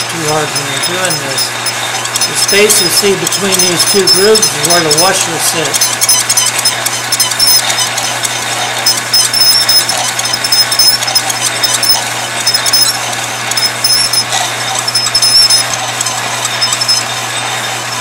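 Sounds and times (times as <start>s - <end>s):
small clicks: 0.0s - 17.1s
cutting tool squealing: 0.0s - 18.0s
lathe humming: 0.0s - 18.0s.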